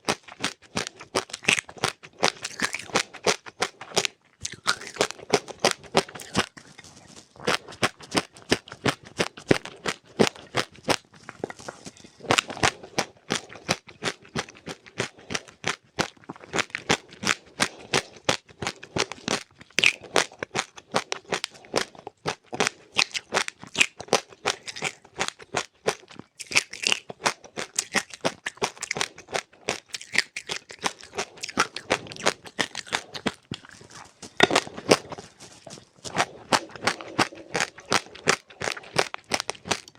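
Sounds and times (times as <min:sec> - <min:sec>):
chewing crunchy seeds: 0:00.0 - 0:39.9.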